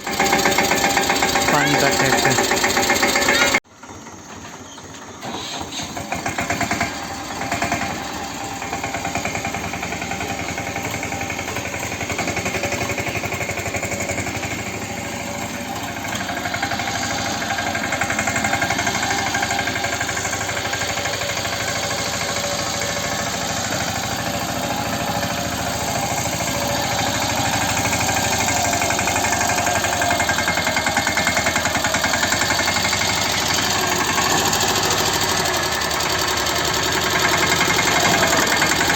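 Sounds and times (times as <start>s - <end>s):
diesel tractor engine knocking: 0.0s - 38.9s.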